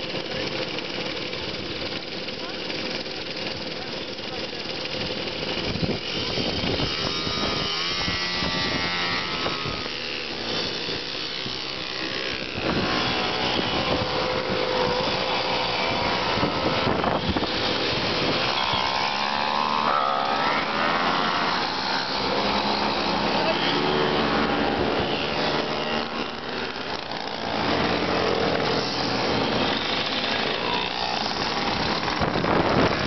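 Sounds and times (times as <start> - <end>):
mopeds riding past: 5.6 - 33.0.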